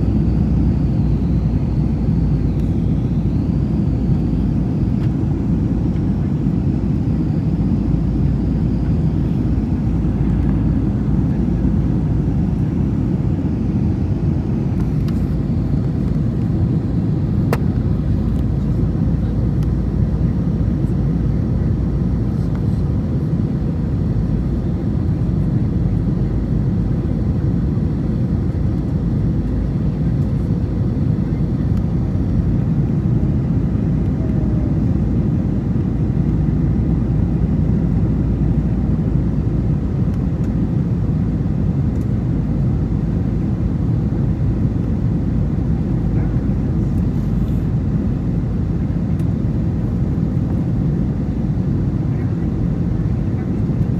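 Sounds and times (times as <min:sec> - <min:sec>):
airliner cabin rumble: 0:00.0 - 0:53.9.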